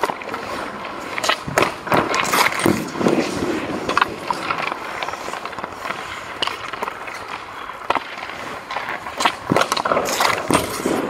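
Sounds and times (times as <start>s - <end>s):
skate blades scraping ice: 0.0s - 11.0s
stick striking pucks: 0.0s - 11.0s.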